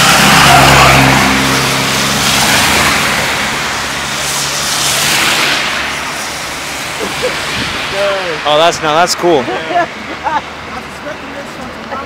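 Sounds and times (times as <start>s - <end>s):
car engine hum: 0.0s - 12.0s
wind and tyre spray hiss: 0.0s - 12.0s.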